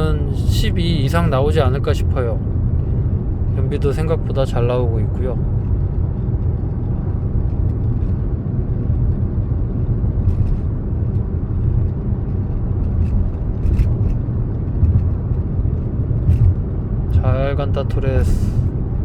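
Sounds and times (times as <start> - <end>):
road and tyre rumble in car: 0.0 - 19.0.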